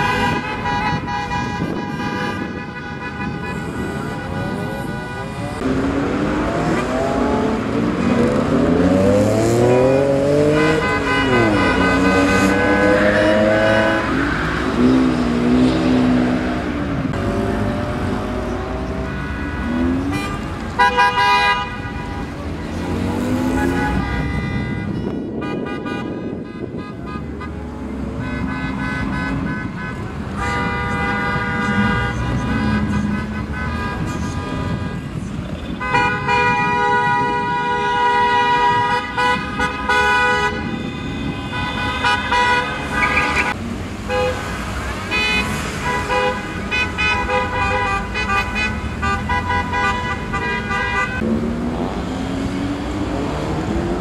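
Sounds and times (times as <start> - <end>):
car engines revving: 0.0 - 25.4, 26.1 - 54.0
car horns honking: 0.0 - 54.0.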